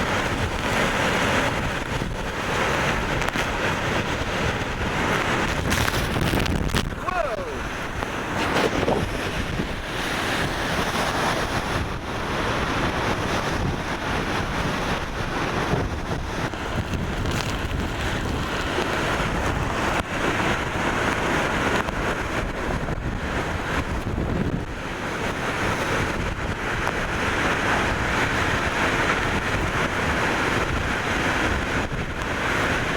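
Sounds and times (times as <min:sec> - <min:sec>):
hurricane wind blowing hard: 0:00.0 - 0:32.9
wind buffeting microphone: 0:00.0 - 0:32.9.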